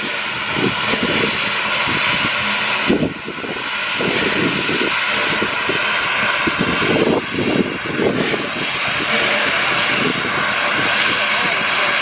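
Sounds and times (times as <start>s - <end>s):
fluctuating low rumble: 0.0s - 12.0s
steam locomotive hissing: 0.0s - 12.0s.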